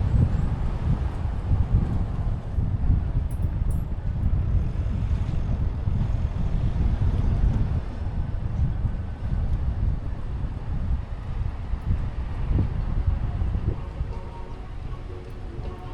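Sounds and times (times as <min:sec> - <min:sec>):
road and engine rumble: 0:00.0 - 0:15.9
wind buffeting microphone: 0:00.0 - 0:15.9.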